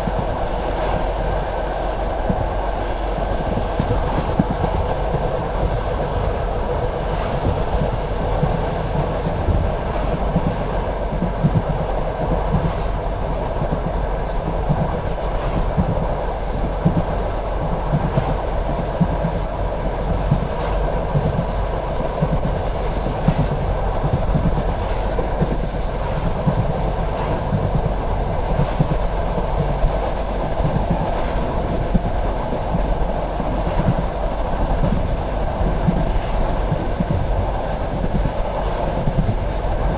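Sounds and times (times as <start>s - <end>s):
rail joint clicks: 0.0s - 39.9s
train wheels rumbling on rails: 0.0s - 39.9s.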